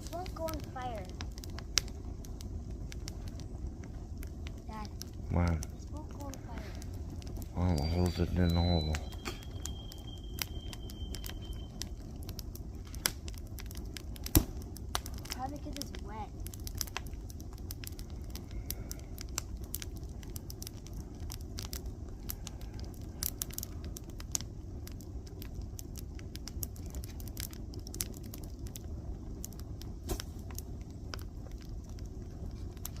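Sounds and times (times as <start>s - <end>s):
campfire crackling and popping: 0.0s - 33.0s
low rumble: 0.0s - 33.0s.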